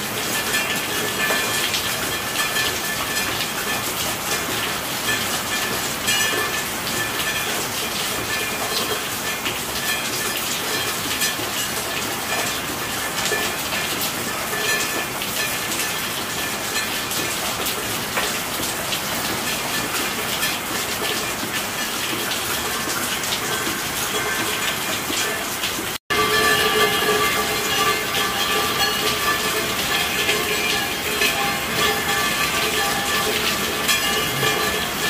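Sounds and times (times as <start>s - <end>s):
raindrops ticking on a surface: 0.0s - 35.0s
steady rainfall: 0.0s - 35.0s.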